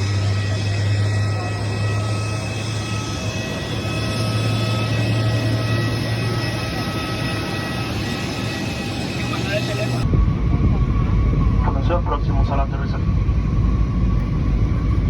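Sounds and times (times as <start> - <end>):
faint high whining tones: 0.0 - 12.3
aircraft engine drone: 0.0 - 15.0.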